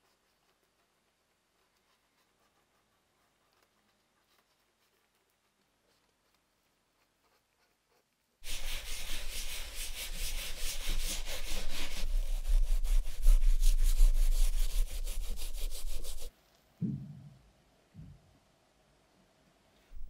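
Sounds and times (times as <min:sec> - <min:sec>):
brush scrubbing rubber sole: 0:00.0 - 0:16.3.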